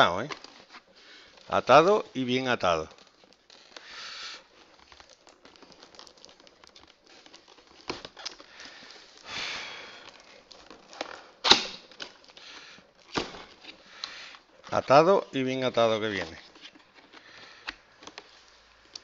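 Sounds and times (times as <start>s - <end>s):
cardboard rustling and scraping: 0.0s - 9.3s, 10.0s - 19.0s.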